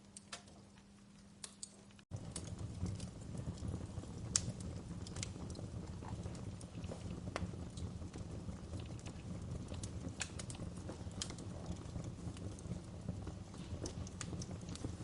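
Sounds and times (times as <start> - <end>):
wood fire crackling: 0.0 - 15.0
low fire rumble: 0.1 - 15.0.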